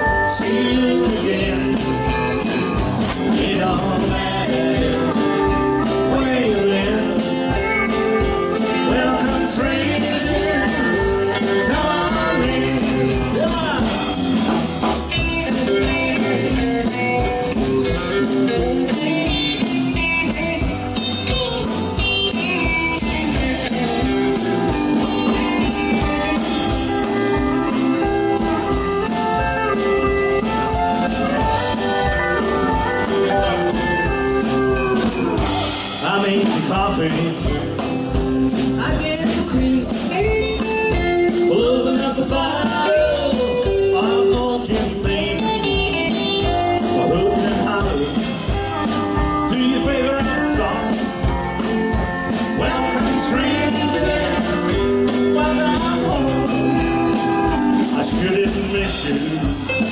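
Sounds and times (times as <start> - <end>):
country band instrumental: 0.0 - 59.9
tambourine shaken: 0.0 - 59.9.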